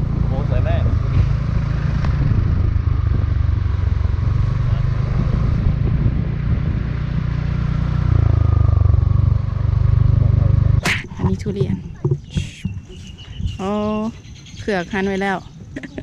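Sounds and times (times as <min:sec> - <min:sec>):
motorcycle engine: 0:00.0 - 0:13.2
wind rumble on microphone: 0:00.0 - 0:16.0.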